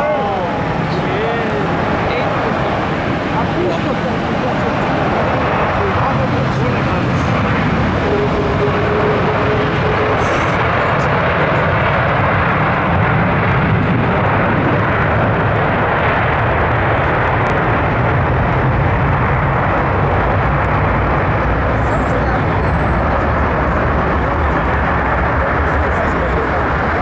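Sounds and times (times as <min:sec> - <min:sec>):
jet engines at high thrust: 0:00.0 - 0:27.0.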